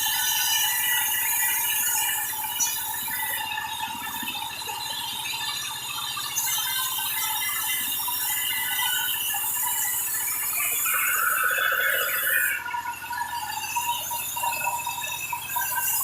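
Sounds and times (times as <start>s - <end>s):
circular saw whining: 0.0s - 16.0s.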